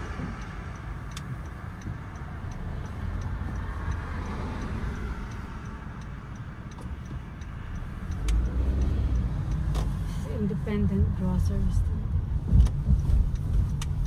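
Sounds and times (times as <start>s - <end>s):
car engine and tyre noise: 0.0s - 14.0s
turn signal ticking: 0.0s - 14.0s.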